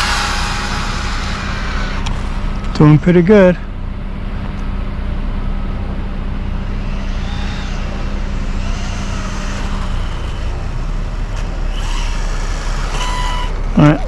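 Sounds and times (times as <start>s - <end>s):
rc car motor whine: 0.0s - 4.7s, 5.6s - 14.0s
low rumble: 0.0s - 14.0s.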